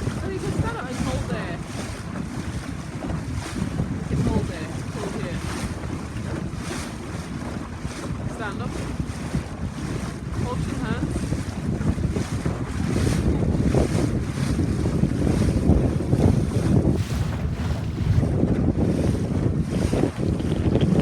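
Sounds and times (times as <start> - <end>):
sea water washing: 0.0 - 21.0
wind buffeting microphone: 0.0 - 21.0.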